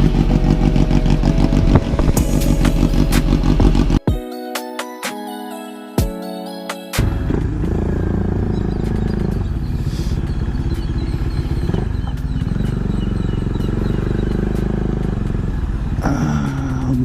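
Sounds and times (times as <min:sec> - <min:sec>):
motorcycle engine rumbling: 0:00.0 - 0:04.1, 0:07.0 - 0:17.0.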